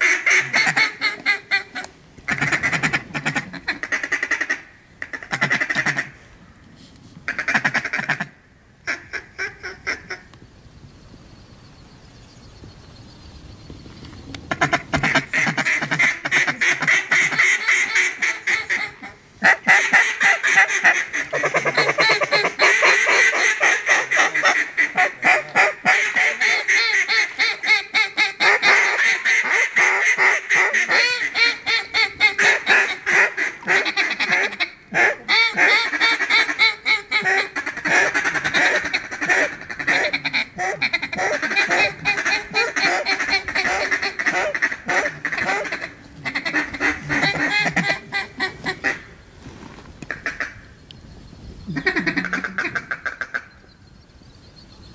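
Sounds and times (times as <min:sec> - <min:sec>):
ducks quacking: 0:00.0 - 0:06.2, 0:07.3 - 0:10.3, 0:14.4 - 0:49.2, 0:50.0 - 0:50.7, 0:51.7 - 0:53.7.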